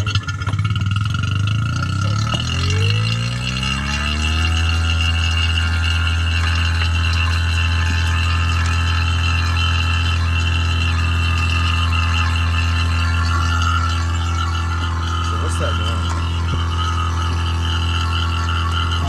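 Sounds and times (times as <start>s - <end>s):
high whine: 0.0s - 19.0s
vacuum pump motor hum: 0.0s - 19.0s.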